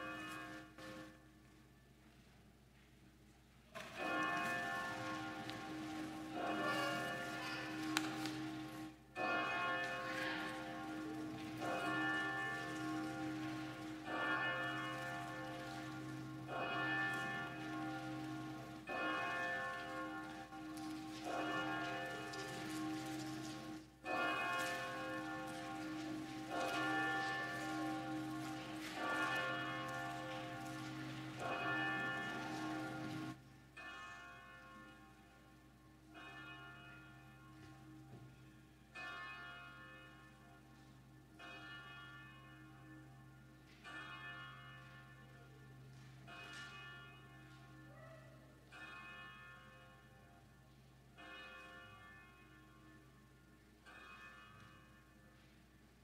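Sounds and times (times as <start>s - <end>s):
church bell tolling: 0.0s - 1.4s, 3.8s - 56.0s.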